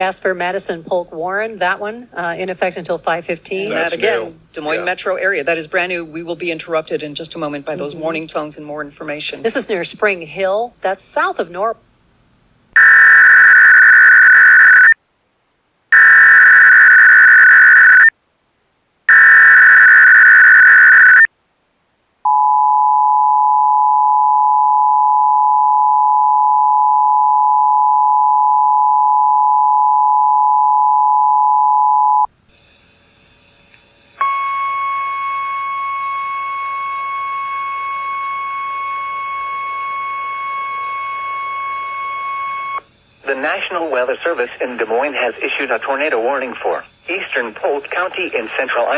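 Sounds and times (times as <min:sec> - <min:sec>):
quiet steady tone: 0:00.0 - 0:12.1, 0:21.3 - 0:48.9.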